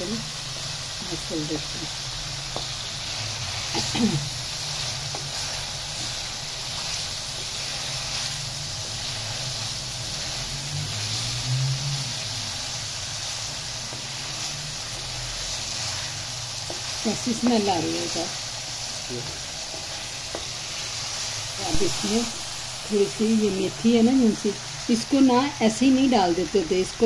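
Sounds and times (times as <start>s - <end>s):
chicken sizzling in oil: 0.0s - 27.0s
wooden spatula stirring in pan: 0.3s - 26.6s.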